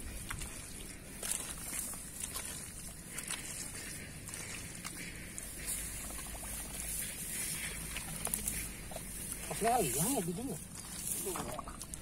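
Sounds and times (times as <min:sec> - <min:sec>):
hands squelching through mud: 0:00.0 - 0:12.0
muddy water trickling: 0:00.0 - 0:12.0
small wet clicks: 0:00.0 - 0:12.0.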